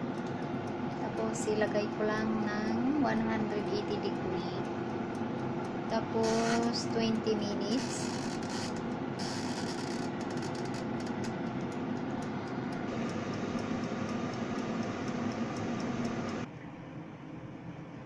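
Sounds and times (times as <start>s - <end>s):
faint regular ticking: 0.0s - 16.5s
air fryer fan whirring: 0.0s - 18.0s.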